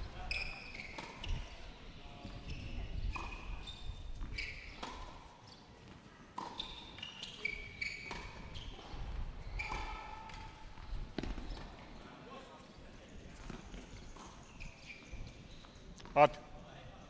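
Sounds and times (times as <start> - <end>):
shoes squeaking on court: 0.0 - 16.3.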